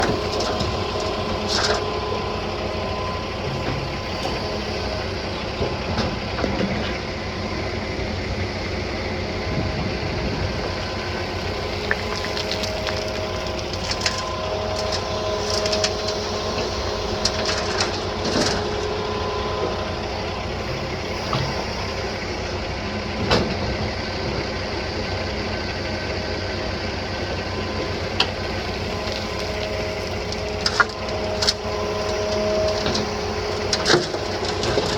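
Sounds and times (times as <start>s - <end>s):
excavator diesel engine drone: 0.0s - 34.9s.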